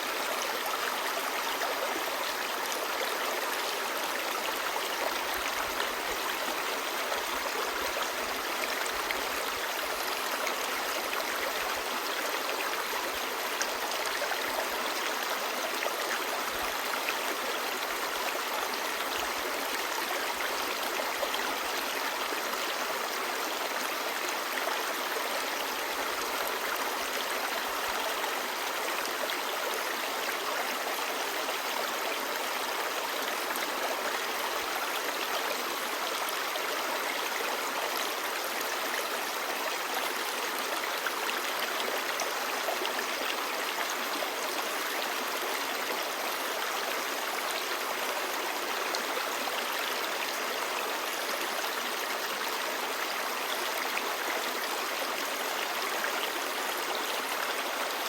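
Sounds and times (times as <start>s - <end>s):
stream babbling over rocks: 0.1s - 58.0s.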